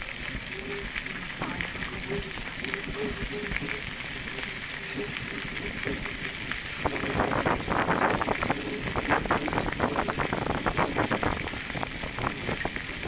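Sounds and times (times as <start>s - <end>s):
tyres crunching on gravel: 0.0s - 13.0s.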